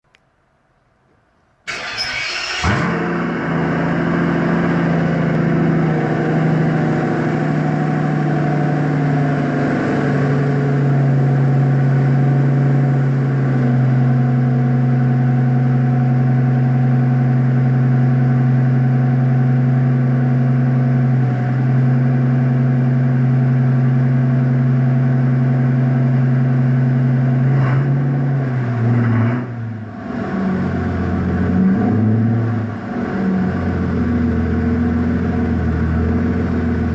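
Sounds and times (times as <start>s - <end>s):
car engine idling: 1.7s - 27.5s, 28.2s - 36.9s.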